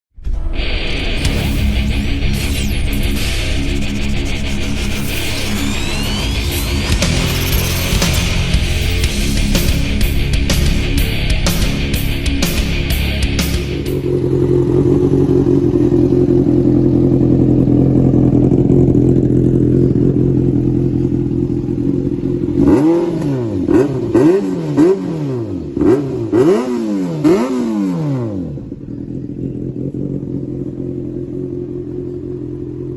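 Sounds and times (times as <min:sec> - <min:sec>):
motorcycle engine idling and revving: 0:00.8 - 0:32.9.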